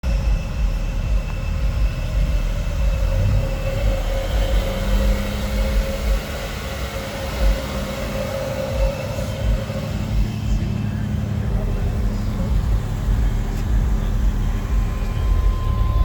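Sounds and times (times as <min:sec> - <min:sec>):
booming subwoofer bass: 0:00.0 - 0:16.0.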